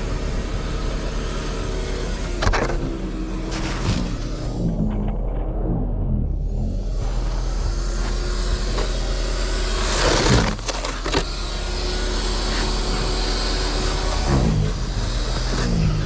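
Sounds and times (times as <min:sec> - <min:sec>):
car running: 0:00.0 - 0:16.0.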